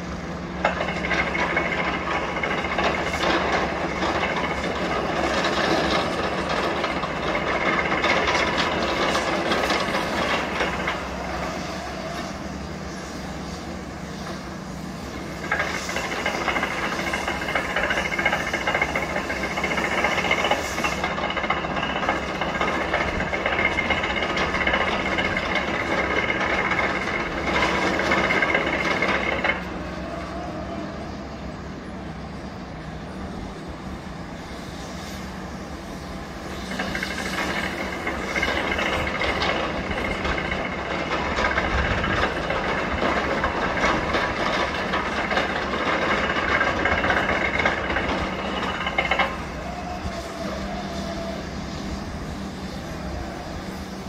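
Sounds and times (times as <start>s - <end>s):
mechanical noise with high whine: 0.0s - 54.0s.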